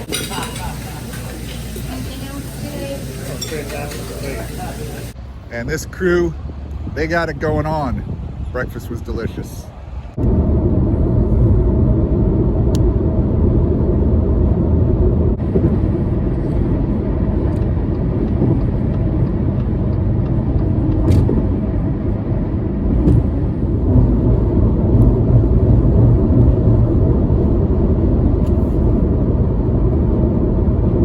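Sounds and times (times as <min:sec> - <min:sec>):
car tyre road and engine noise: 0:05.0 - 0:31.0.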